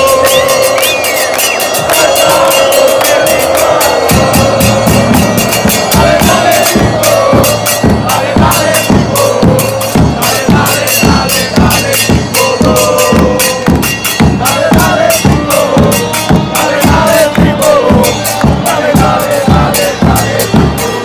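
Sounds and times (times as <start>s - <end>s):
driving drum beat: 0.0s - 21.0s
voices singing a chant: 0.0s - 21.0s.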